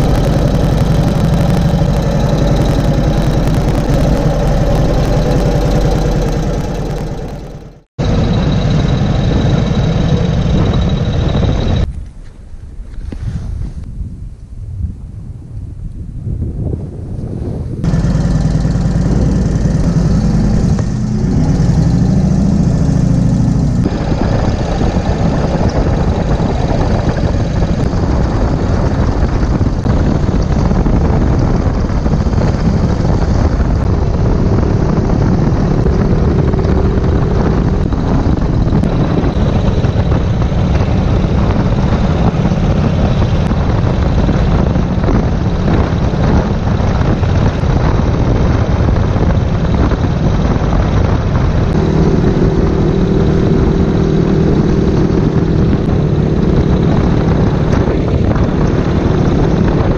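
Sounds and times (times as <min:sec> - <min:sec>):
motorcycle engine running: 0:00.0 - 0:12.0, 0:17.6 - 0:59.9.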